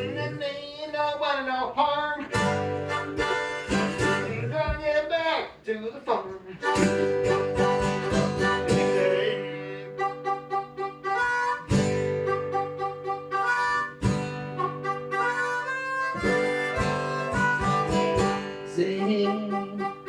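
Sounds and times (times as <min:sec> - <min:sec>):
harmonica melody: 0:00.0 - 0:00.7, 0:02.3 - 0:04.7, 0:06.6 - 0:20.0
strummed acoustic guitar: 0:00.0 - 0:00.8, 0:02.2 - 0:05.0, 0:06.6 - 0:20.0.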